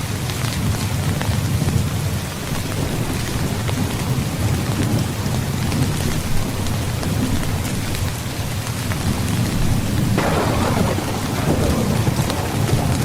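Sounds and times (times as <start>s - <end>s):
heavy rain falling: 0.0s - 13.0s
low rumble of thunder: 0.6s - 13.0s.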